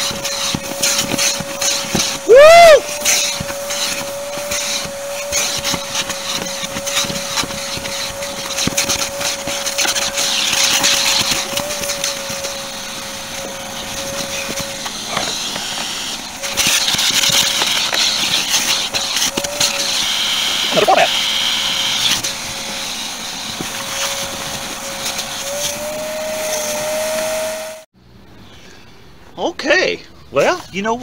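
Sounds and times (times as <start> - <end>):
shop vacuum motor whine: 0.0 - 27.9.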